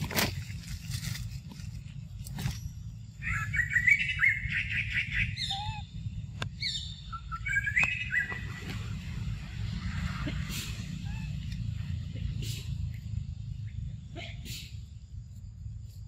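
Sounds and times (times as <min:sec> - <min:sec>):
steady low rumble: 0:00.0 - 0:16.0
birds chirping: 0:01.8 - 0:15.1.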